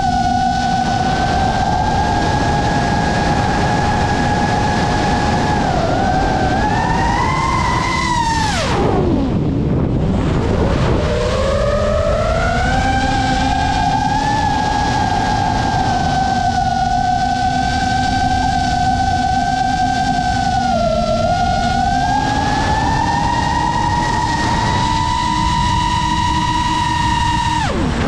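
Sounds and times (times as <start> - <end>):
drone motors whining: 0.0 - 28.0
steady rushing noise: 0.0 - 28.0.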